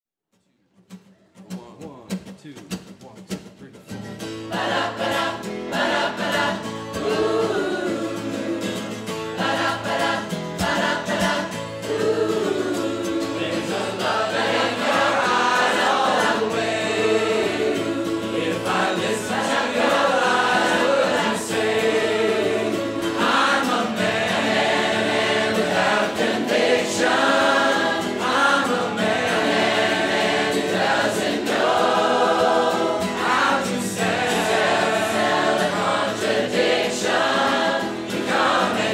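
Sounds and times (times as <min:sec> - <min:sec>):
acoustic guitar strumming: 0:00.8 - 0:38.9
choir singing in parts: 0:04.4 - 0:38.9.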